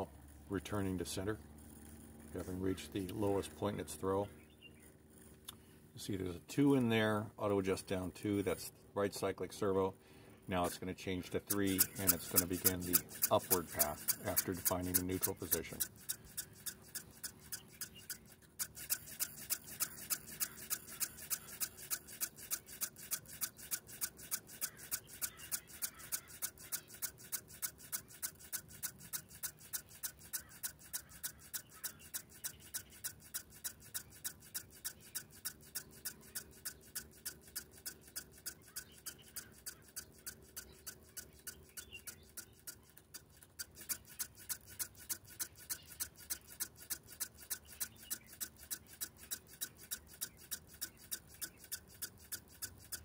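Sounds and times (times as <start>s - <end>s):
servo ticking: 0.0s - 4.2s, 10.4s - 53.0s.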